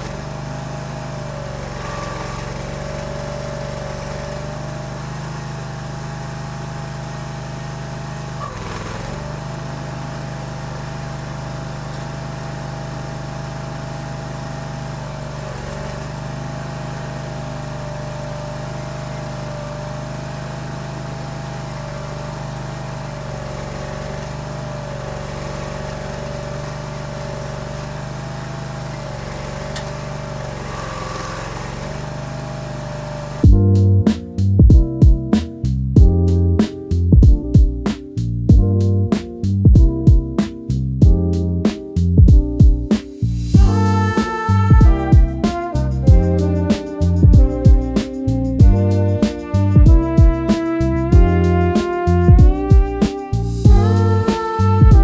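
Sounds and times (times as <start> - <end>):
stump grinder engine running: 0.0 - 33.5, 43.2 - 55.0.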